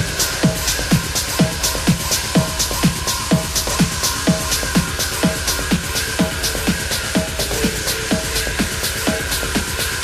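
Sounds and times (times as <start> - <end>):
hi-hats: 0.0 - 10.0
techno dance beat: 0.0 - 10.0.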